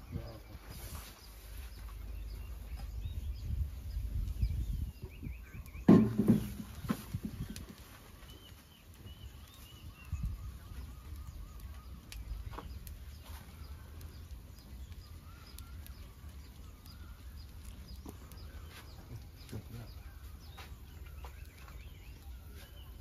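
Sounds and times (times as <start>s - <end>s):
faint wavering bird calls: 0.0s - 23.0s.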